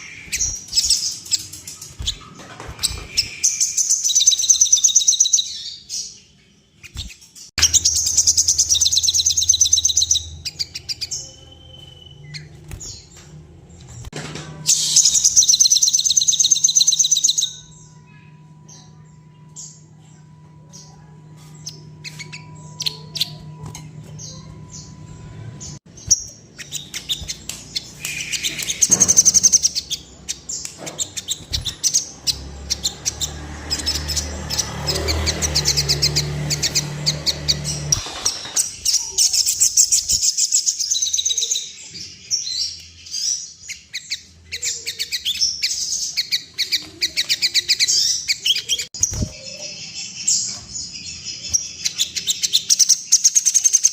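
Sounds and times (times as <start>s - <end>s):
bird chirping and twittering: 0.0s - 53.9s.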